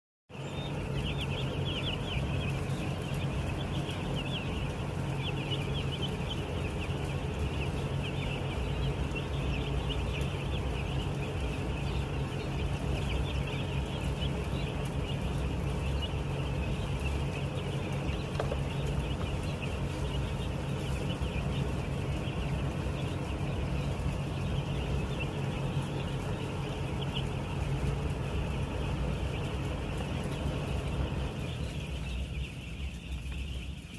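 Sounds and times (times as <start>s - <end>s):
chicks peeping: 0.3s - 33.9s
low hum: 0.3s - 33.9s.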